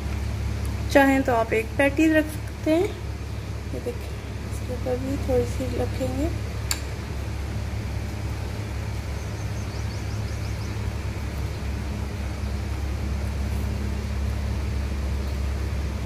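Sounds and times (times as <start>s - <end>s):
constant noisy hiss: 0.0s - 16.0s
low mechanical hum: 0.0s - 16.0s.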